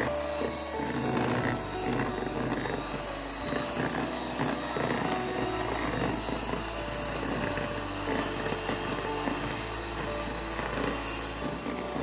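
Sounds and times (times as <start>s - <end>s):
electric hand mixer whirring: 0.0s - 12.0s.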